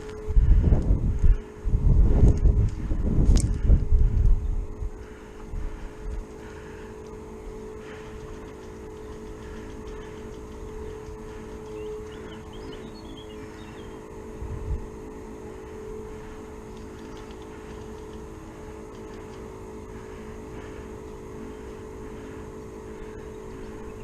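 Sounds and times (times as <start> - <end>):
steady engine drone: 0.0 - 24.0.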